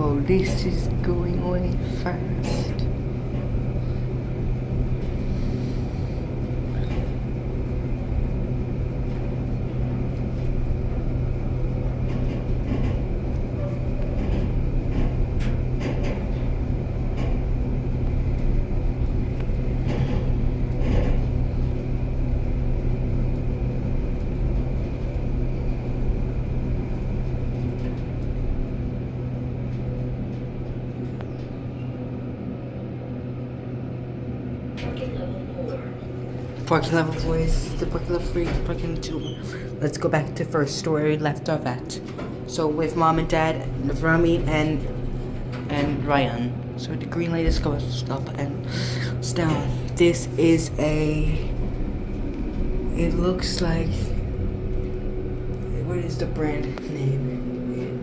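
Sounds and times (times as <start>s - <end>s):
elevator hum and rumble: 0.0s - 58.0s.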